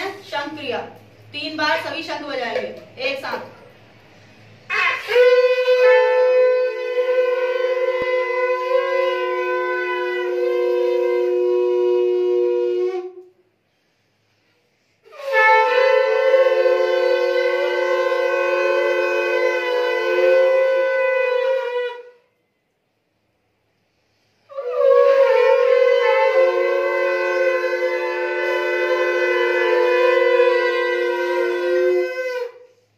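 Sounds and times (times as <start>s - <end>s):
conch shells blowing: 3.8s - 22.6s, 23.6s - 32.9s.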